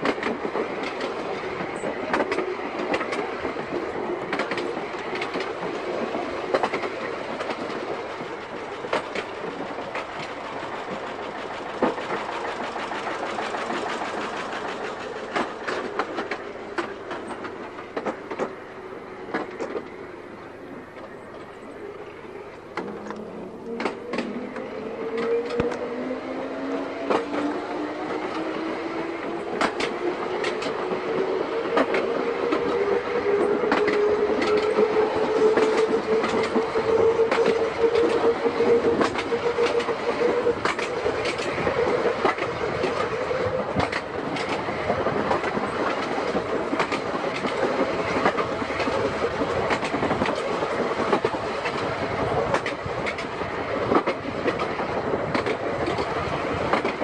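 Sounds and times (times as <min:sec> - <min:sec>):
wheels clicking over rail joints: 0:00.0 - 0:20.0, 0:22.5 - 0:57.0.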